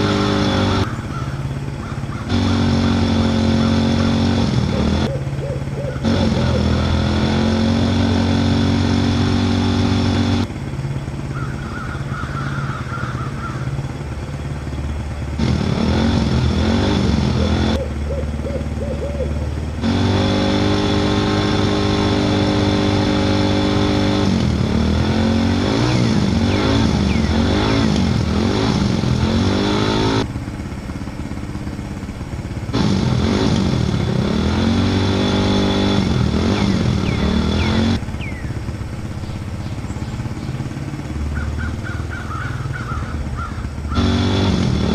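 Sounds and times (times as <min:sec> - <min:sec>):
vehicle engine revving: 0:00.0 - 0:44.9.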